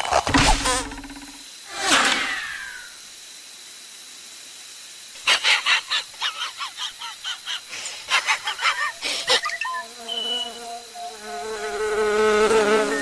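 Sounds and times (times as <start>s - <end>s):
faint steady background noise: 0.7s - 12.9s.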